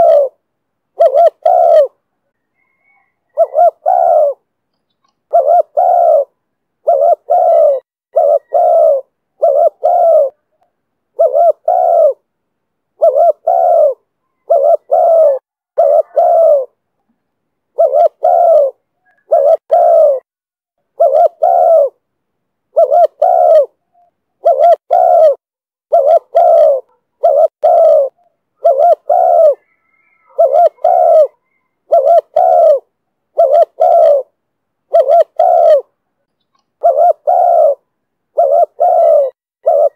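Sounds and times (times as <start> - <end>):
dove cooing: 0.0 - 4.5, 5.3 - 12.3, 13.0 - 16.8, 17.7 - 20.3, 20.9 - 22.0, 22.7 - 39.9.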